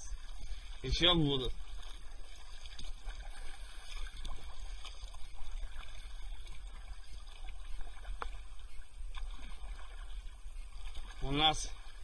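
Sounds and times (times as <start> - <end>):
paddle stroke splashes: 0.0 - 12.0
water splashing and trickling: 0.0 - 12.0.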